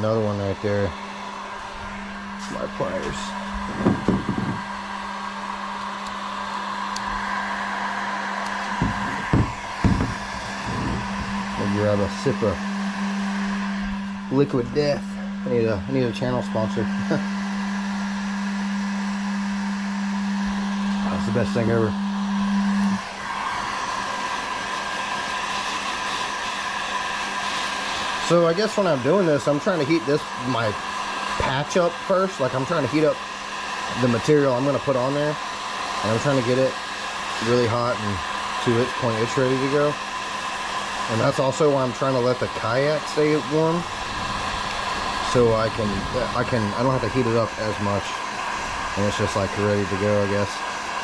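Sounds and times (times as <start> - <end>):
heat gun blowing: 0.0 - 51.0.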